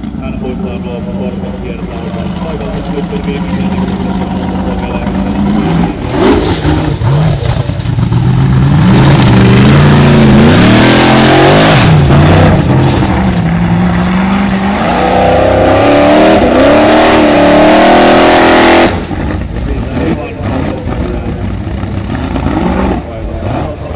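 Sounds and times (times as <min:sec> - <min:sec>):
buggy engine revving: 0:00.0 - 0:23.9.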